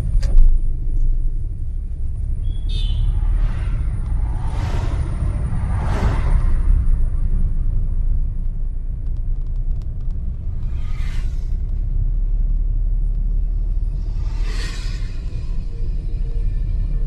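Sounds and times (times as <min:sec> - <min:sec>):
vehicle road and wind noise: 0:00.0 - 0:17.0.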